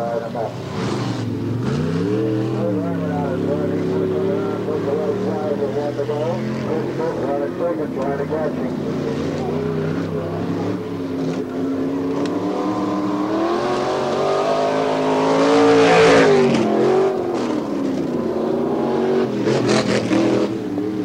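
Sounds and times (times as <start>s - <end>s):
race car accelerating past: 0.0s - 21.0s.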